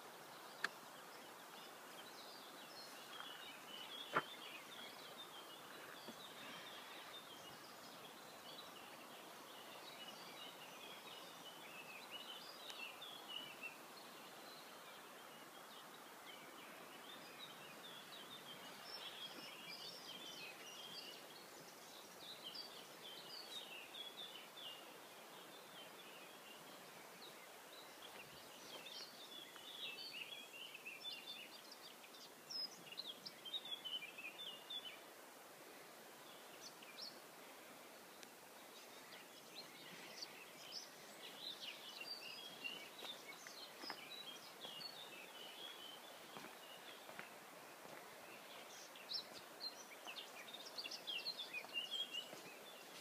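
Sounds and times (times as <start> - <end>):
birds chirping: 0.0 - 53.0
faint outdoor hiss: 0.0 - 53.0.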